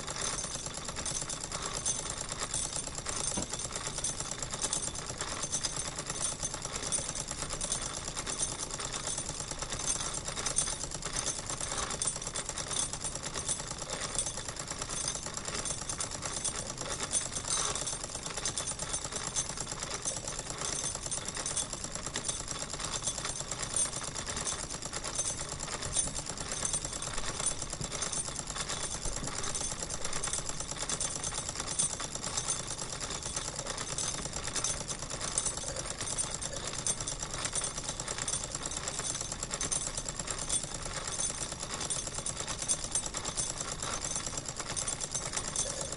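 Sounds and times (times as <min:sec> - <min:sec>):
model steam engine clatter: 0:00.0 - 0:45.9.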